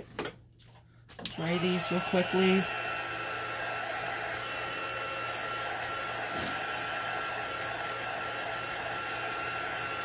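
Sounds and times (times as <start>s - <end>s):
heat tool fan whining: 1.3s - 10.0s.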